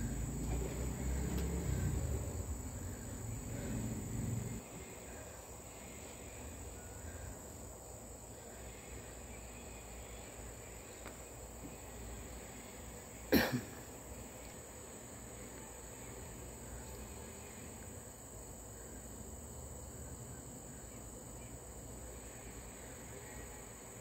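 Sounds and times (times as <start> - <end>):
insects droning: 0.0 - 24.0
low background hum: 0.0 - 24.0.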